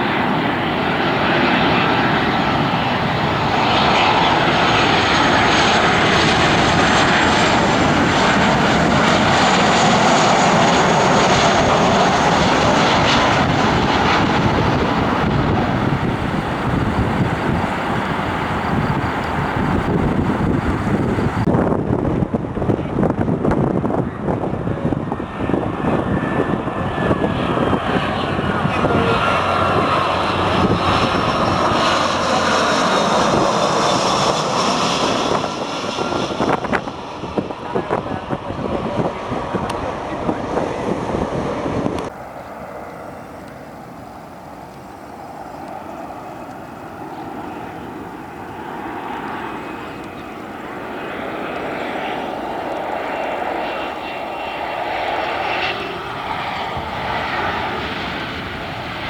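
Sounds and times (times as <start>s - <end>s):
airliner engines whining: 0.0s - 59.0s.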